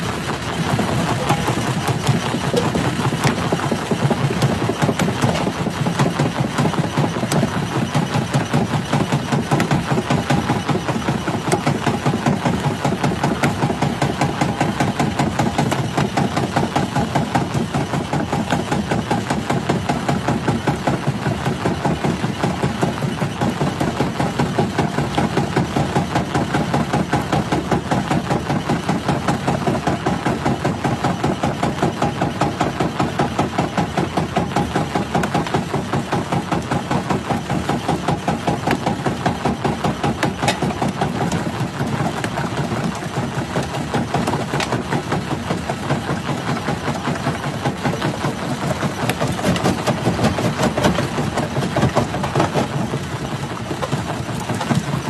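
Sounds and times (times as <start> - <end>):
rock crusher pulsing: 0.0 - 55.0.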